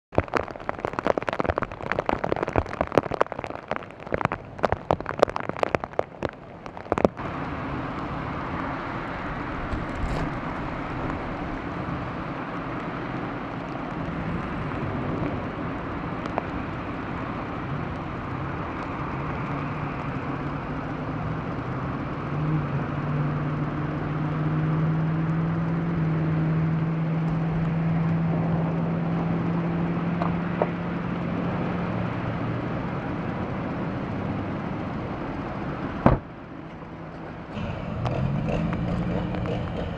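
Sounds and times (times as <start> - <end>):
heavy rain pelting a car: 0.1 - 25.5, 26.2 - 39.8
road and cabin noise: 0.2 - 39.9
car engine drone: 3.7 - 39.9.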